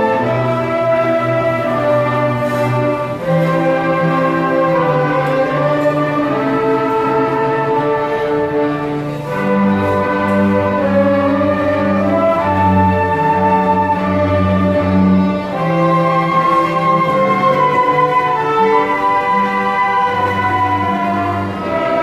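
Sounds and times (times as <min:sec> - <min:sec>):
flute ensemble playing: 0:00.0 - 0:22.0.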